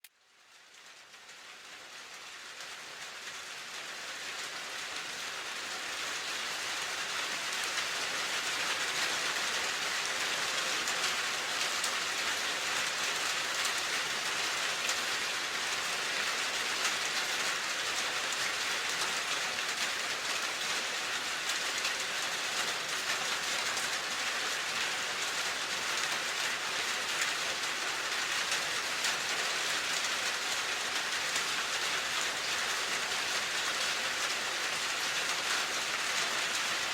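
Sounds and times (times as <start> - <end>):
steady rain falling: 0.1 - 36.9.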